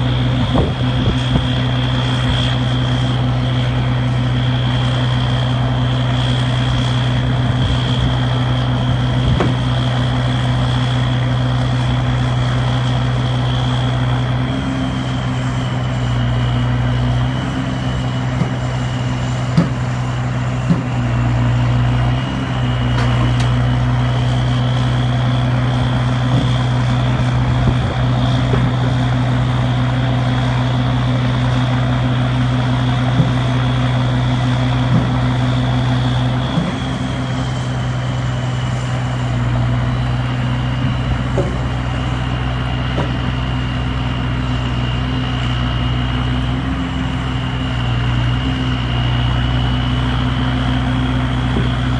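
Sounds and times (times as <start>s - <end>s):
hydraulic whine: 0.0s - 51.9s
truck engine hum: 0.0s - 51.9s.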